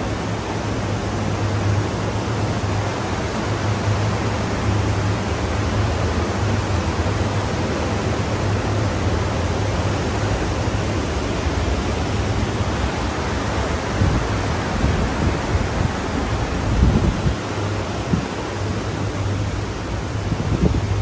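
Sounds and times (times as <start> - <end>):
rushing wind: 0.0 - 21.0.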